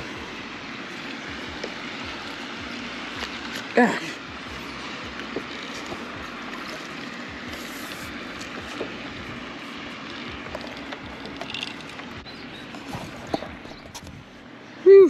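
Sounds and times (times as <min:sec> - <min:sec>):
steady rush of noise: 0:00.0 - 0:15.0.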